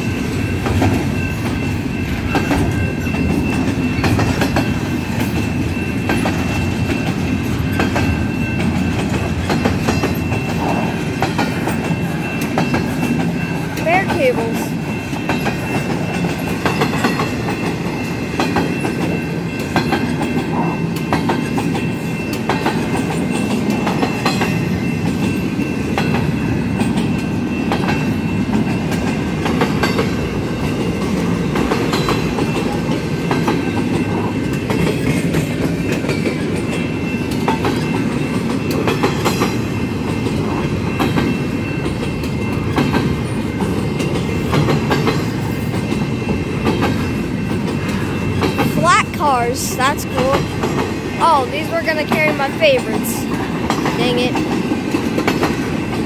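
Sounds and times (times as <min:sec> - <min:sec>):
train wheels rumbling on rail: 0:00.0 - 0:56.0
wheels clickety-clack over rail joints: 0:00.0 - 0:56.0.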